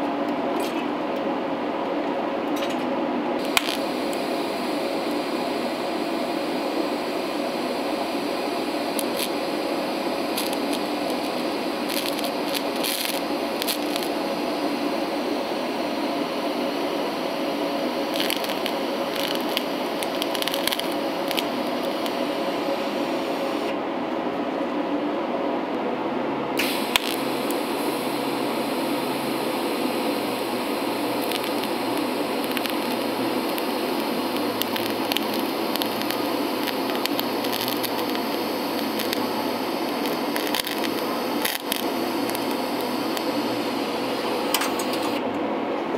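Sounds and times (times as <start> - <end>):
welding arc hissing and crackling: 3.4 - 23.7, 26.6 - 45.2.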